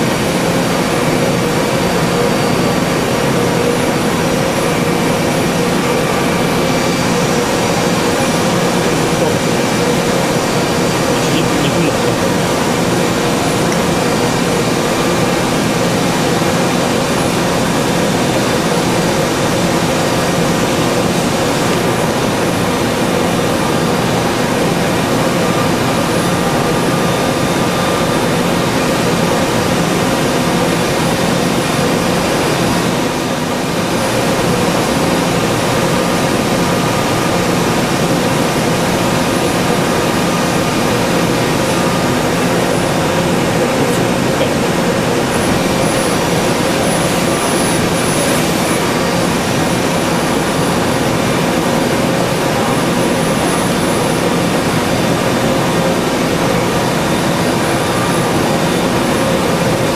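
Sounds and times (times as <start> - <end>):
held whining tones: 0.0 - 55.8
cnc machine milling metal: 0.0 - 59.9.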